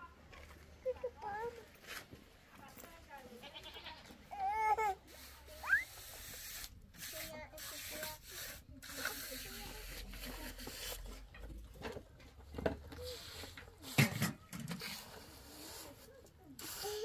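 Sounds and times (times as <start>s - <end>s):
voices in background: 0.0s - 17.0s.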